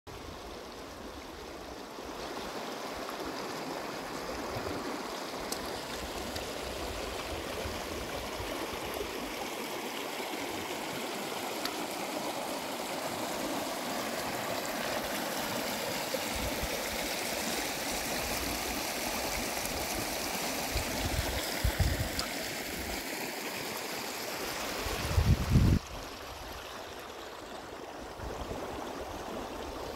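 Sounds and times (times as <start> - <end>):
stream rippling over stones: 0.2 - 29.9.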